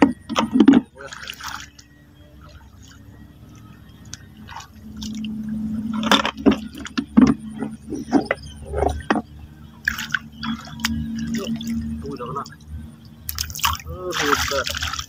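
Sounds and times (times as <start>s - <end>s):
steady low hum: 0.0s - 15.0s
water splashing: 0.0s - 15.0s.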